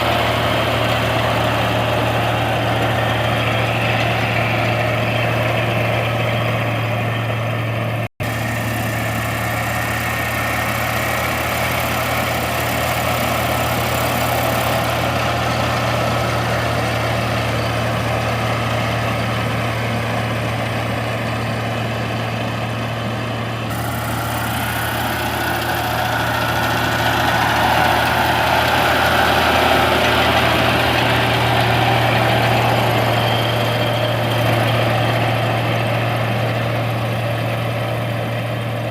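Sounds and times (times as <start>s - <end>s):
farm machine engine running: 0.0s - 38.9s.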